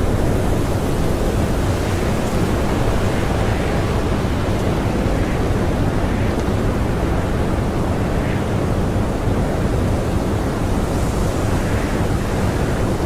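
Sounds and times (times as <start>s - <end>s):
strong blizzard wind: 0.0s - 13.0s.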